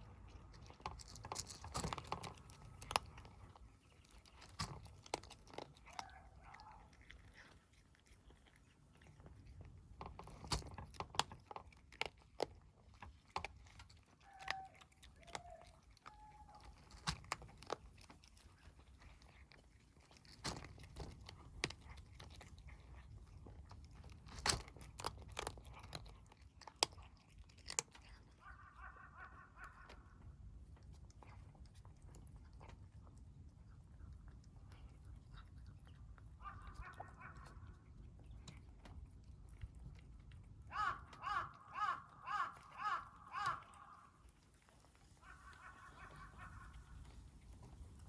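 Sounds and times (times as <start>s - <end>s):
kittens crunching cat food: 0.0s - 48.0s.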